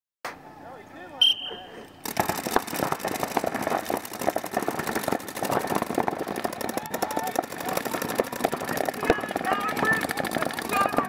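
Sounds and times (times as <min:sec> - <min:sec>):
paintball markers firing: 0:02.0 - 0:11.0.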